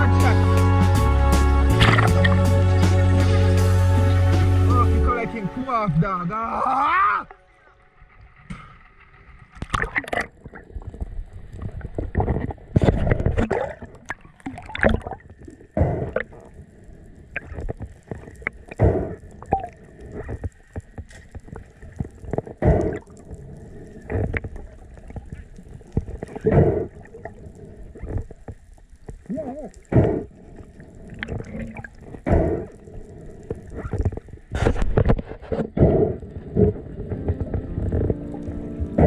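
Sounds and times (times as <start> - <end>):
water gurgling and sloshing: 1.7 - 39.0.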